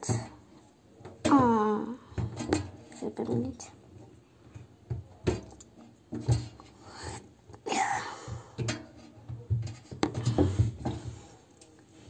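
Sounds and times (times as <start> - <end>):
irregular knocks and handling noises: 0.0 - 12.0.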